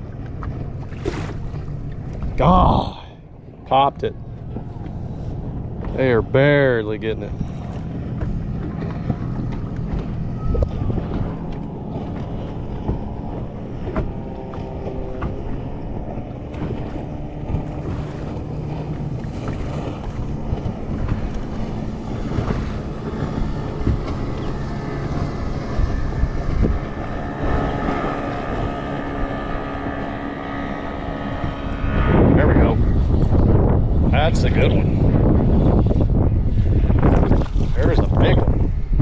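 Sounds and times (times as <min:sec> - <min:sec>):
small waves lapping hull: 0:00.0 - 0:39.0
wind buffeting microphone: 0:00.0 - 0:39.0
electric trolling motor whine: 0:03.3 - 0:39.0.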